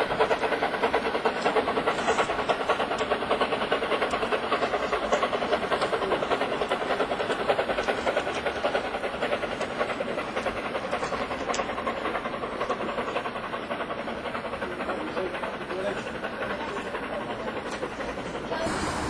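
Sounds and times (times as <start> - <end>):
train passing rhythmic beat: 0.0 - 19.0.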